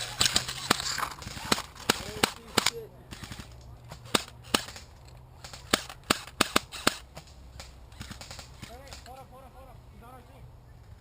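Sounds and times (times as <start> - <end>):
airsoft guns firing single shots: 0.0 - 9.1.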